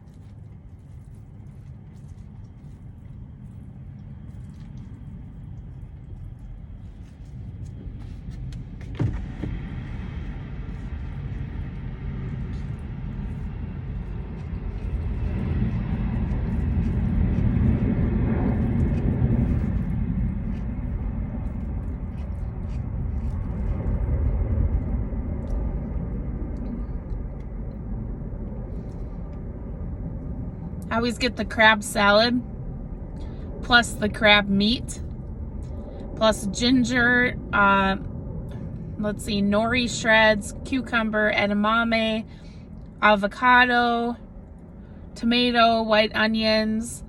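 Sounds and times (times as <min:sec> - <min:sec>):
jet airliner rumble: 0:00.0 - 0:47.0.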